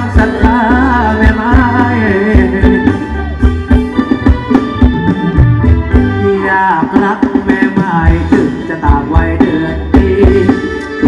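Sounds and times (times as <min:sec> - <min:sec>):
dance band playing: 0:00.0 - 0:11.0
regular drum beat: 0:00.0 - 0:11.0.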